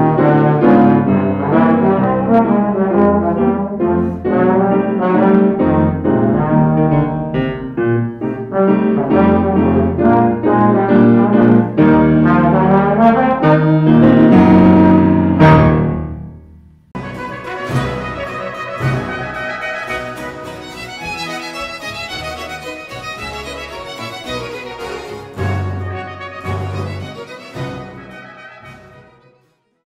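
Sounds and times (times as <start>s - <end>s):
trombone melody: 0.0s - 16.4s, 17.0s - 29.7s
grand piano accompaniment: 0.0s - 29.6s.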